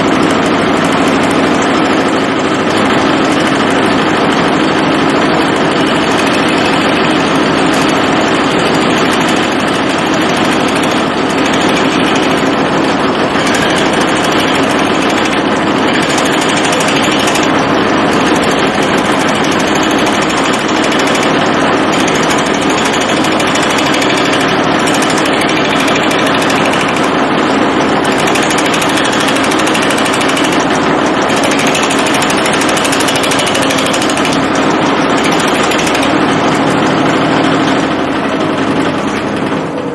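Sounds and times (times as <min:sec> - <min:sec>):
wood lathe machine drone: 0:00.0 - 0:39.9.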